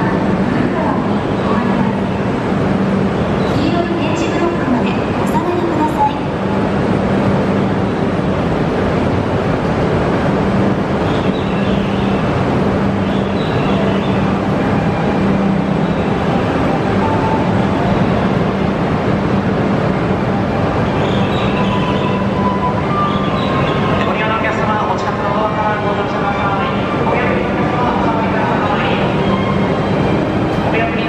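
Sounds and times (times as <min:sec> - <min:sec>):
train running rumble: 0:00.0 - 0:31.0.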